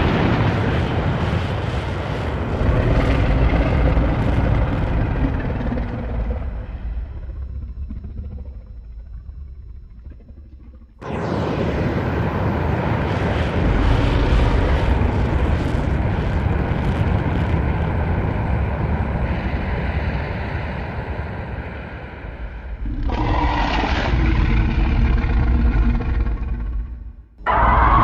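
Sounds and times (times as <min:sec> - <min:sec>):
loud low rumble: 0:00.0 - 0:28.0
sharp pitched roaring whine: 0:00.0 - 0:28.0.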